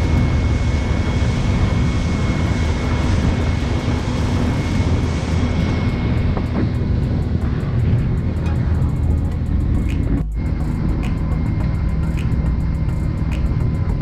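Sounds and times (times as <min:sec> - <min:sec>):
motorboat engine running: 0:00.0 - 0:14.0
rushing wind noise: 0:00.0 - 0:14.0.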